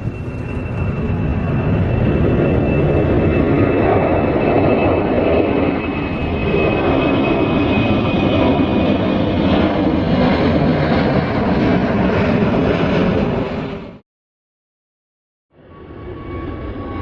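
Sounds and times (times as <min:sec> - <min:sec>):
jet engines running loud: 0:00.0 - 0:14.0, 0:15.6 - 0:17.0.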